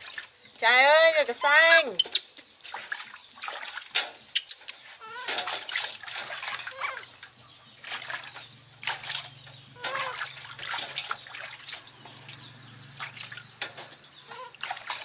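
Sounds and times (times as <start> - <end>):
water sloshing in steel basin: 0.0 - 15.0.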